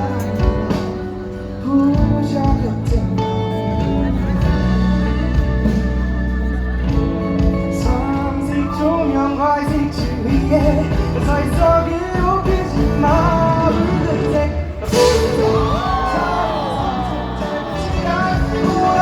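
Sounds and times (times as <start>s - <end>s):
man singing: 0.0s - 5.8s, 6.8s - 19.0s
live band music: 0.0s - 19.0s.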